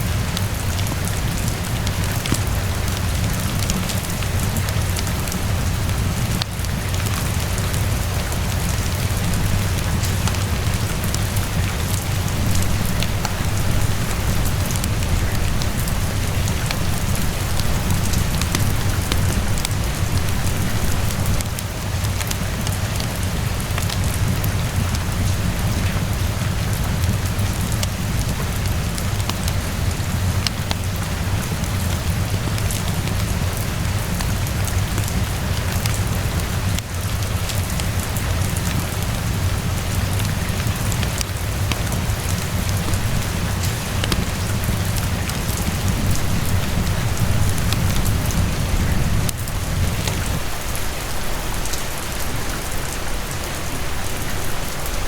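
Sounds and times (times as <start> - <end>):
continuous low rumble: 0.0 - 55.0
rain on hard surfaces: 0.0 - 55.0.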